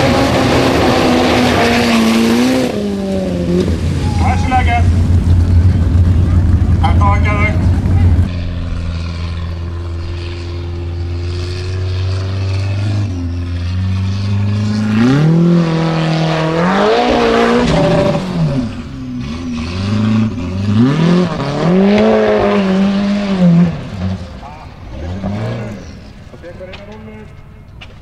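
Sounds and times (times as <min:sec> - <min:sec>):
buggy engine revving: 0:00.0 - 0:27.4.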